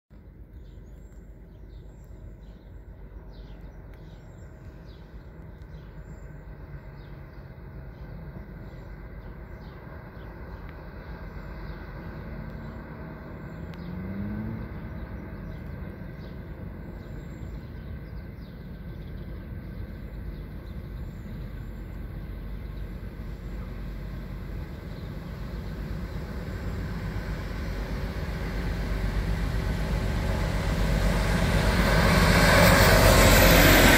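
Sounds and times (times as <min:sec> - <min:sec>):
freight train rumbling: 0:01.6 - 0:33.9.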